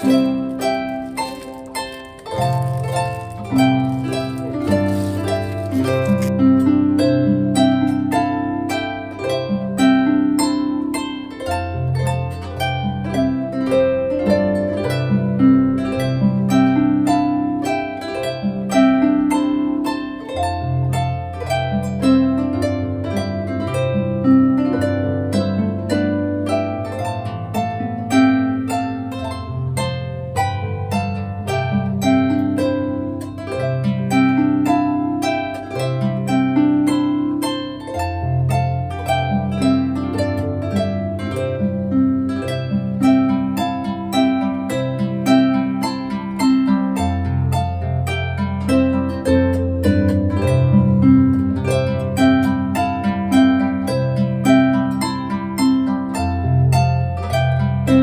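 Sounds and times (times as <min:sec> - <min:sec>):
harp music: 0:00.0 - 0:58.0.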